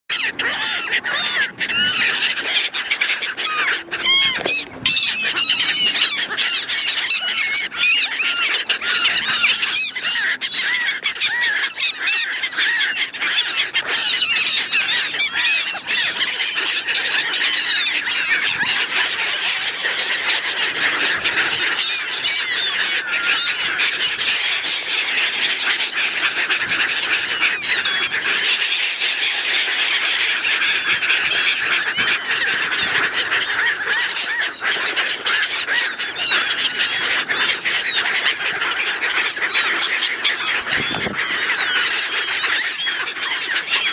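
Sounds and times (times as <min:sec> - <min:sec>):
gulls calling: 0:00.1 - 0:43.9.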